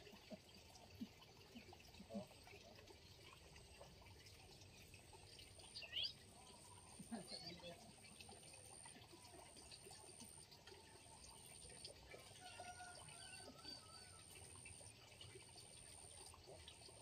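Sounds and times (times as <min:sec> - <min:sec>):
trickle of water: 0:00.0 - 0:17.0.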